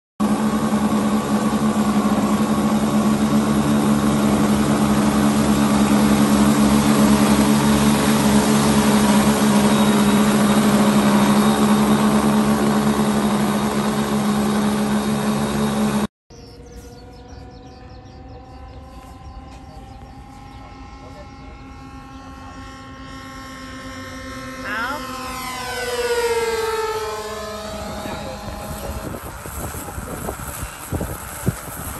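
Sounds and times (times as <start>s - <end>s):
distant model plane flying: 0.2s - 31.9s
model plane engines droning: 0.2s - 31.9s.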